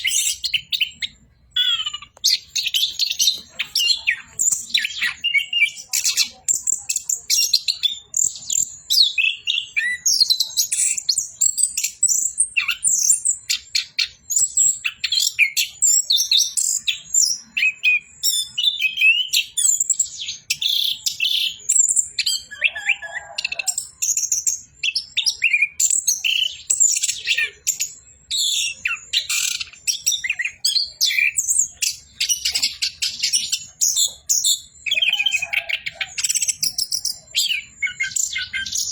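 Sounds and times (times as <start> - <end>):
thrush singing chirps and trills: 0.0 - 38.9.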